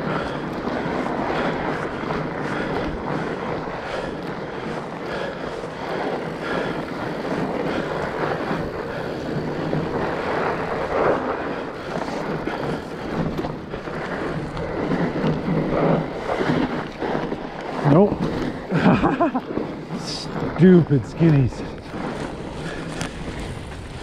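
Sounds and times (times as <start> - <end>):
bike drivetrain noise: 0.0 - 24.0
bike tyres rolling: 0.0 - 24.0
wind buffeting microphone: 0.0 - 24.0.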